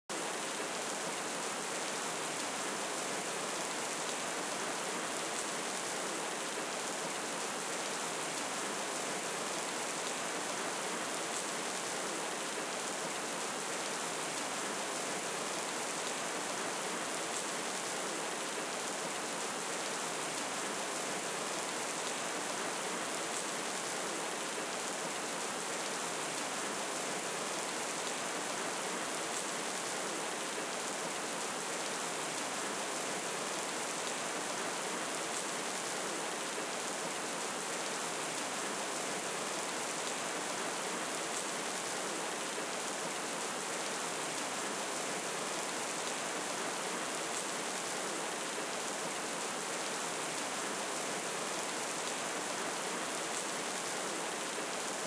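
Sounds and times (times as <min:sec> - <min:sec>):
steady rain hiss: 0:00.1 - 0:55.0.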